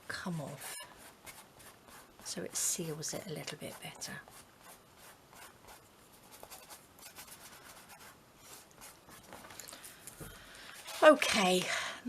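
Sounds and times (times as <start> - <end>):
paintbrush rubbing on paper: 0.3 - 9.7, 10.7 - 11.5.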